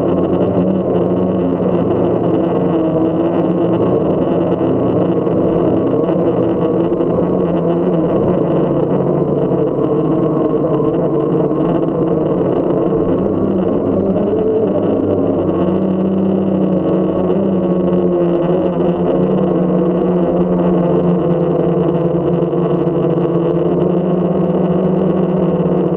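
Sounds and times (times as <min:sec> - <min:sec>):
drone propellers buzzing: 0:00.0 - 0:25.9.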